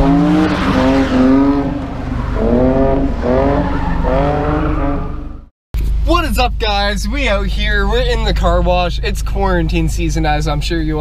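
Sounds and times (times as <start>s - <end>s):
car engine revving: 0.0s - 10.7s
low exhaust rumble: 1.5s - 11.0s.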